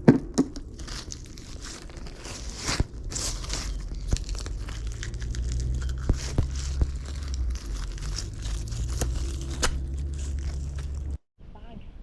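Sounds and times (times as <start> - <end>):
rustling and crinkling handling: 0.4 - 11.2
steady low rumble: 0.6 - 11.2.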